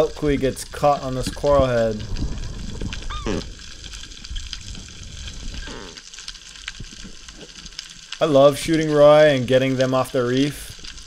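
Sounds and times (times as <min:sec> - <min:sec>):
low rumble of moving water: 0:00.0 - 0:11.0
snapping shrimp crackle: 0:00.7 - 0:11.0.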